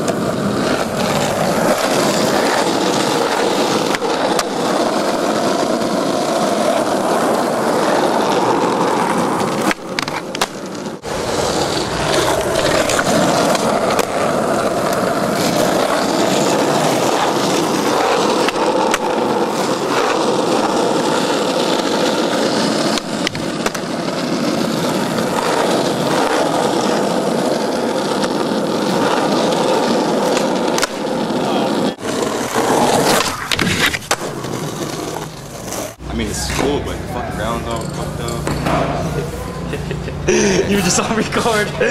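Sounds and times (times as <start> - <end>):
skateboard clacks: 0.0 - 36.7
skateboard wheels rolling on asphalt: 0.0 - 41.9.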